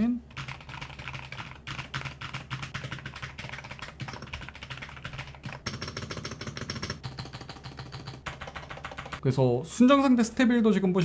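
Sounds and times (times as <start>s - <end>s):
fast mechanical keyboard typing: 0.3s - 9.2s.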